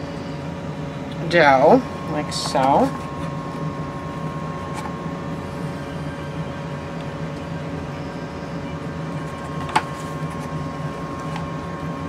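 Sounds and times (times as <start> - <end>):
machine hum: 0.0 - 12.0
thin high whine: 0.0 - 12.0.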